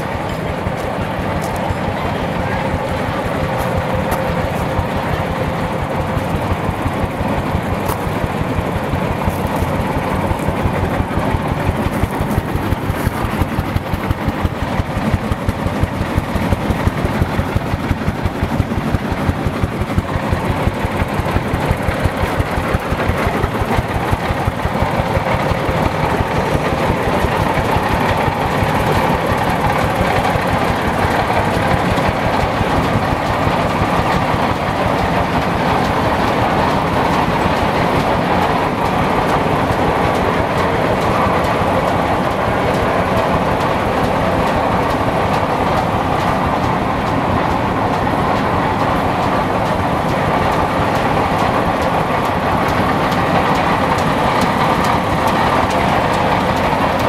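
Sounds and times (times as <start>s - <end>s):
mill machinery chugging: 0.0s - 57.0s.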